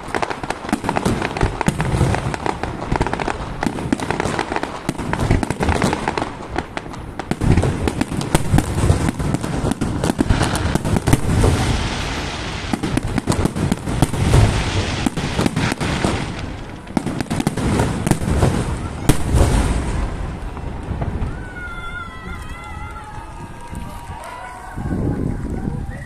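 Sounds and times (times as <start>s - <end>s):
fireworks booming: 0.0s - 26.0s
fireworks crackling: 0.0s - 26.0s.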